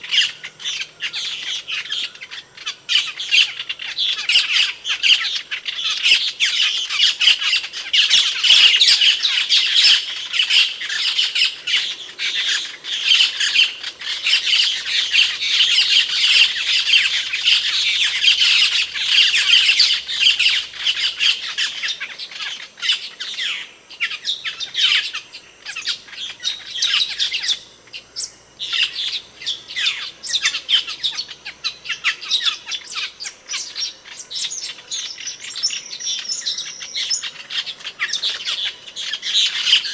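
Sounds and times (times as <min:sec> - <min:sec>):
starling calling: 0:00.0 - 0:39.9.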